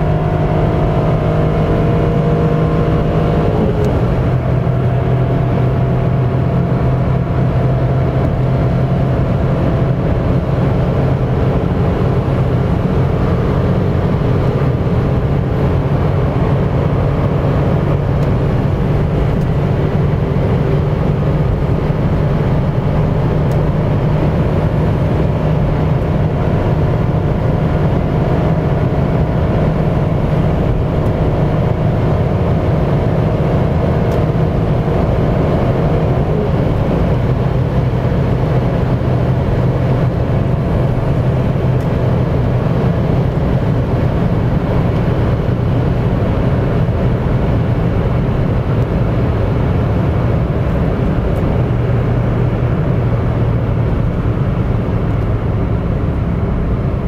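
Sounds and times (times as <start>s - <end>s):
car engine running hard: 0.0s - 57.0s
wind and road noise: 0.0s - 57.0s.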